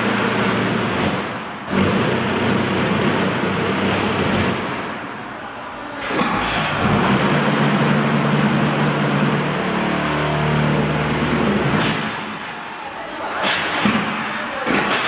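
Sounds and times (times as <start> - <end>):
machinery humming: 0.0 - 14.6.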